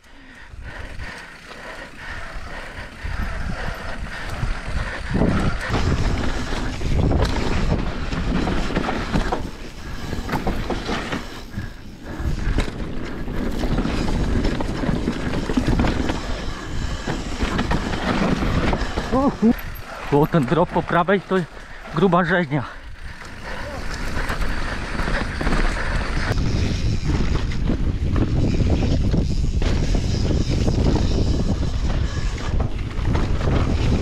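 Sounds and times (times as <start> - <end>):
bike chain and frame rattling: 0.0 - 34.0
bike tyres on dirt: 0.0 - 34.0.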